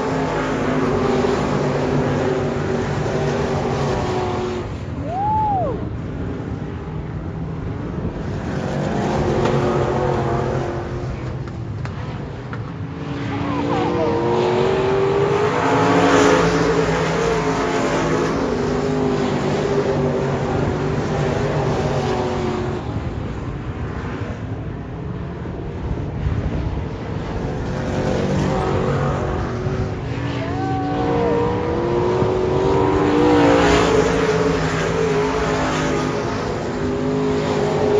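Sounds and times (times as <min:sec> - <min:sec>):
race car engines revving: 0:00.0 - 0:37.9.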